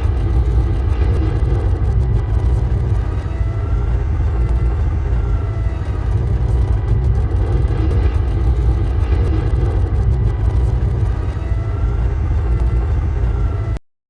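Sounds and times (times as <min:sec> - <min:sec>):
deep engine rumble: 0:00.0 - 0:13.8.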